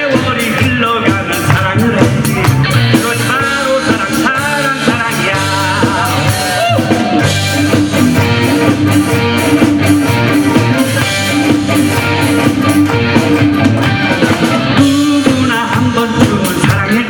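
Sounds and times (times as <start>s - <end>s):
bass guitar: 0.0s - 17.0s
drum kit: 0.0s - 17.0s
electric guitar melody: 0.0s - 17.0s
strummed guitar: 0.0s - 17.0s.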